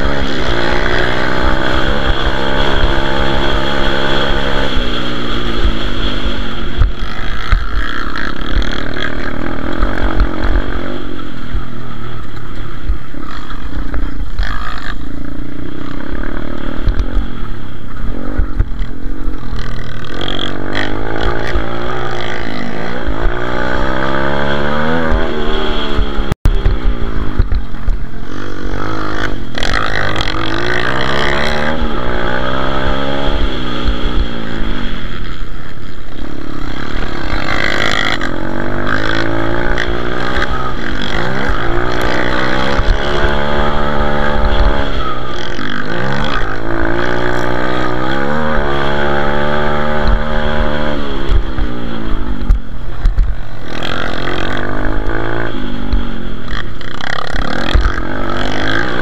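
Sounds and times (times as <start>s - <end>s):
motorbike engine revving: 0.0s - 59.0s
rumble from rough track: 0.0s - 59.0s.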